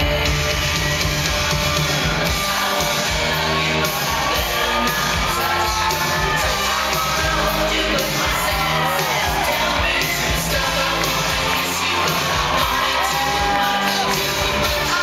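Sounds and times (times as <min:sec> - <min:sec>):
song with vocals and bass: 0:00.0 - 0:15.0.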